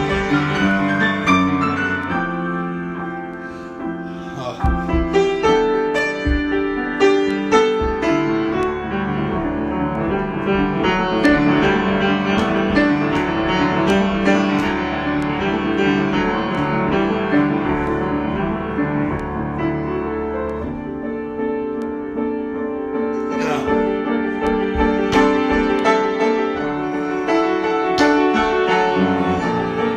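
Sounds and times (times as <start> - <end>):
solo piano music: 0.0 - 29.9.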